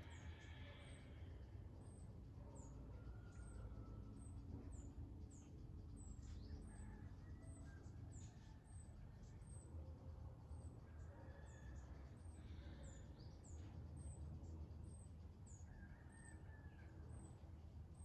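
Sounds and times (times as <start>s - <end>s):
faint bird chirping: 0.0s - 16.1s.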